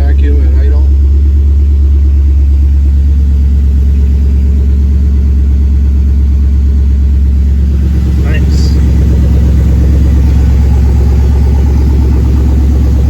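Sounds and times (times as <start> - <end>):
car engine idling: 0.0 - 13.0
engine rattle: 0.0 - 13.0.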